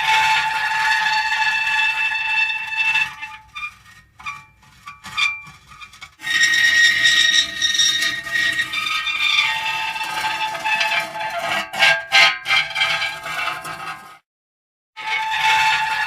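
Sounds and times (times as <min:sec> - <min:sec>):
metal creaking and squealing: 0:00.0 - 0:14.2, 0:15.0 - 0:16.0.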